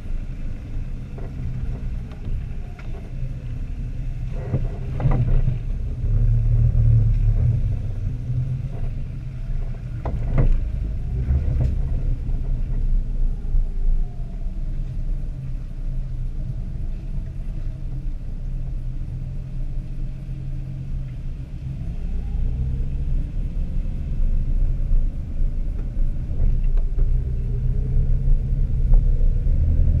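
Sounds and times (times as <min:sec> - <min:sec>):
engine low rumble: 0:00.0 - 0:30.0.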